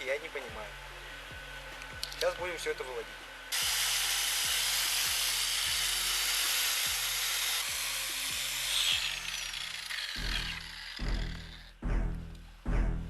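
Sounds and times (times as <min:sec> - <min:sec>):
power tool grinding: 0:01.0 - 0:12.4.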